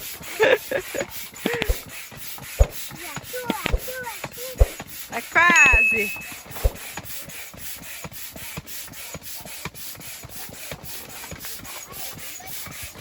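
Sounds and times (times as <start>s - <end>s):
hand air pump strokes: 0.0s - 13.0s.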